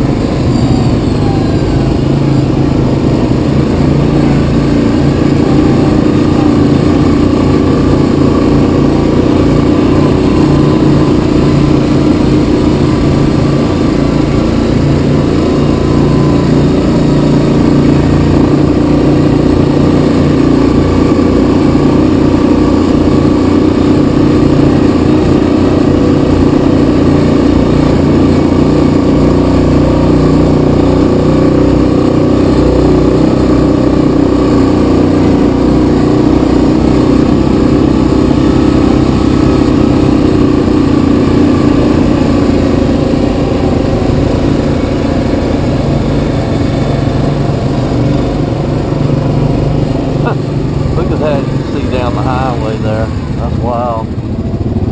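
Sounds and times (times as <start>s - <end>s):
atv engine running: 0.0s - 54.9s.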